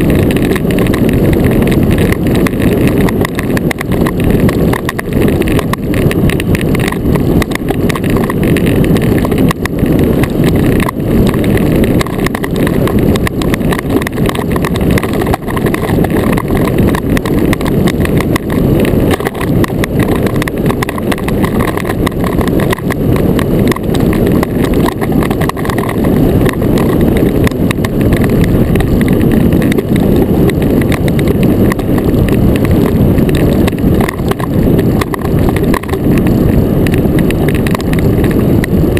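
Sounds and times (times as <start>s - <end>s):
iceboat runners rattling over ice: 0.0s - 38.9s.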